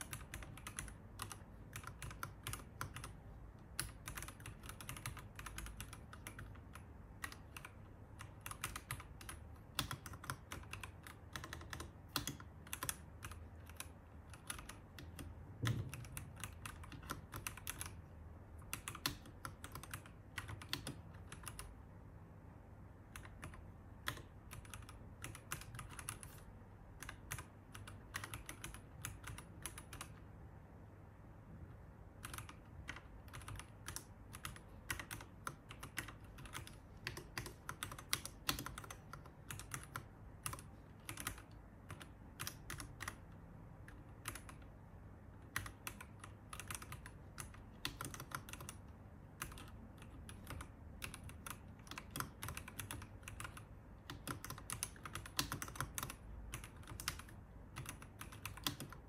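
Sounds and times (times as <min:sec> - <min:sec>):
mechanical keyboard typing: 0:00.0 - 0:21.8, 0:23.0 - 0:30.3, 0:32.1 - 0:59.0.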